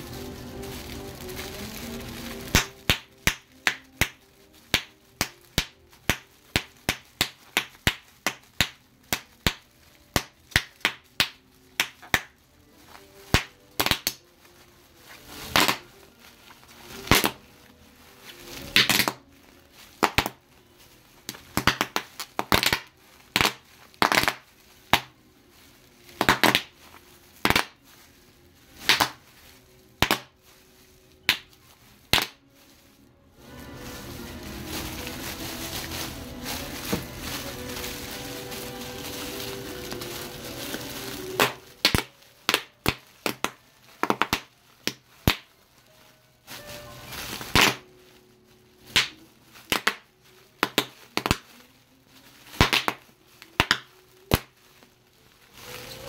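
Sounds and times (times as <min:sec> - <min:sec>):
bubble wrap popping: 0:00.0 - 0:56.0
plastic crinkling: 0:00.0 - 0:56.0.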